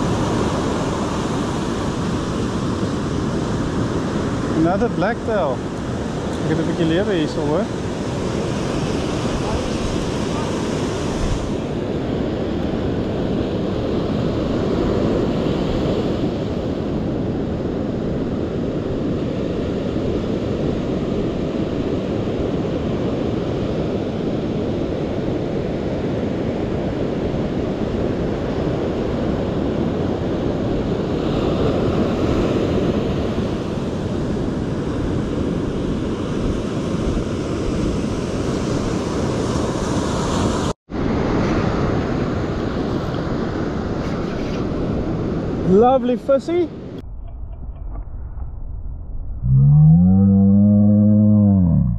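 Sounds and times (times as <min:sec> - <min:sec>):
surf breaking on beach: 0:00.0 - 0:47.2.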